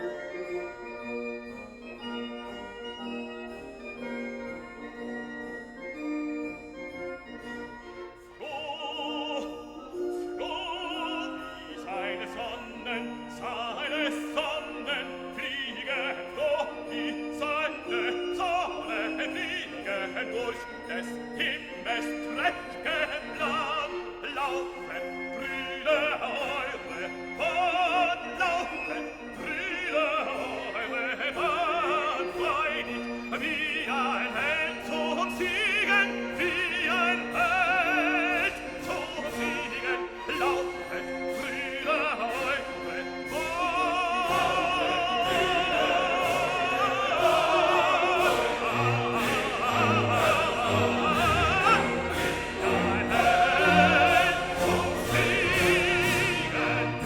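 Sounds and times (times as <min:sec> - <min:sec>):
operatic singing with vibrato: 0:00.0 - 0:57.0
orchestral accompaniment: 0:00.0 - 0:57.0.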